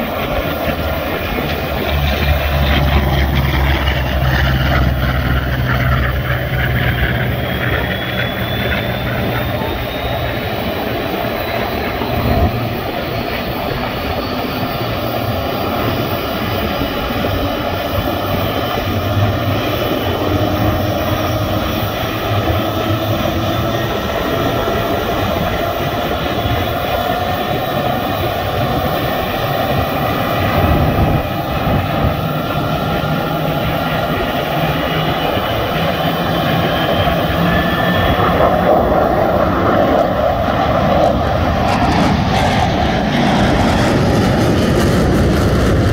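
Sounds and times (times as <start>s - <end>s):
jet engines whining roar: 0.0s - 45.9s
jets flying past overhead: 0.0s - 45.9s.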